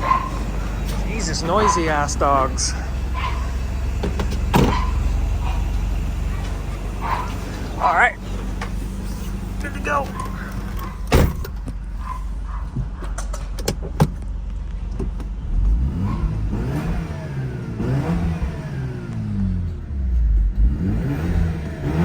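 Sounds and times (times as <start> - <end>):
rotary engine revving: 0.0 - 11.1, 15.4 - 22.0.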